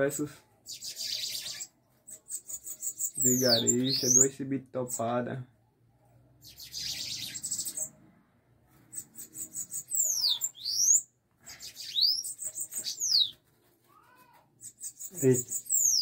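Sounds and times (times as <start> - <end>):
birds chattering and whistling: 0.0 - 5.2, 6.4 - 8.1, 8.7 - 16.0.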